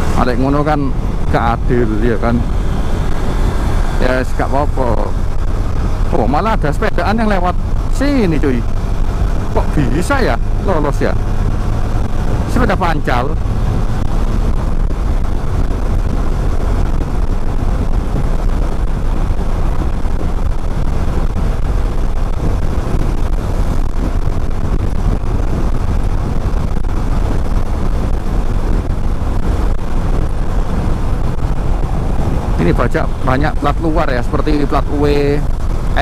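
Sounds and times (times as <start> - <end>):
motorcycle engine running: 0.0 - 36.0
wind rushing over microphone: 0.0 - 36.0.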